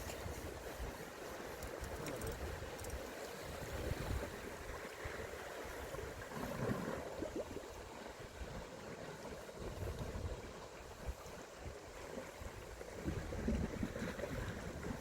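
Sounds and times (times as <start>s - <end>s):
wind on microphone: 0.0s - 8.6s, 9.2s - 15.0s
water lapping on shore: 0.0s - 15.0s.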